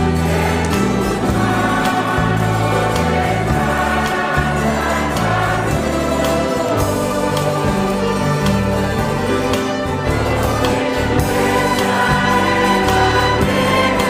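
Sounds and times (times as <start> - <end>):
congregation singing: 0.0 - 14.0
string band playing a hymn: 0.0 - 14.0.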